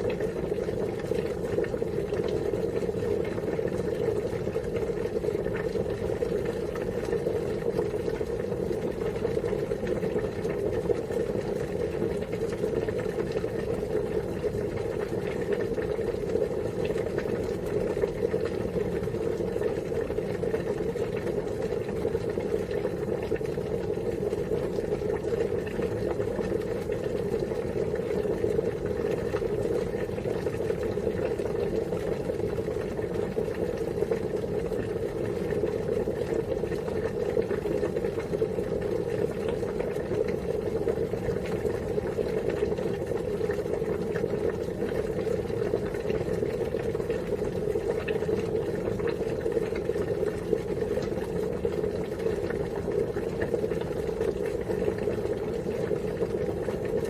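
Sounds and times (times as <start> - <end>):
water boiling: 0.0 - 57.0.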